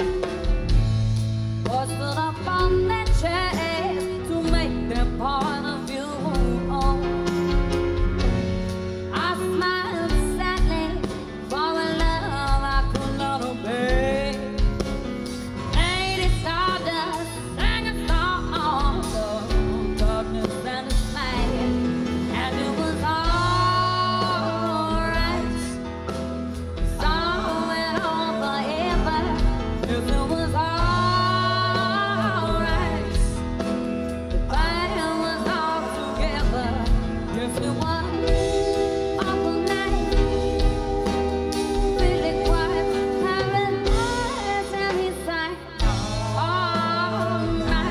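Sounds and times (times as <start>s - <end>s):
live rock band playing: 0.0s - 47.9s
woman singing into microphone: 1.6s - 8.2s, 9.1s - 26.2s, 26.8s - 47.9s.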